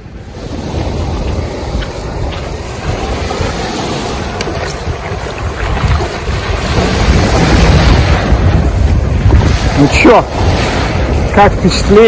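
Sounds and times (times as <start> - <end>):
small waves washing up beach: 0.0 - 12.0
wind buffeting microphone: 0.0 - 12.0.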